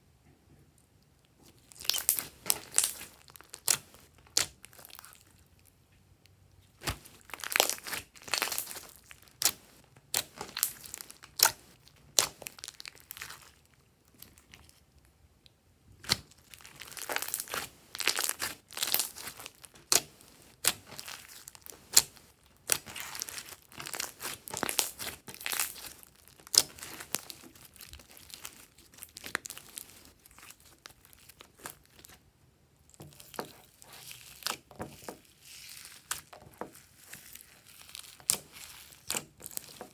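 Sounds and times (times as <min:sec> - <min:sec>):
slime crackling and popping: 0:01.4 - 0:05.5, 0:06.7 - 0:14.8, 0:16.0 - 0:32.2, 0:32.9 - 0:39.9.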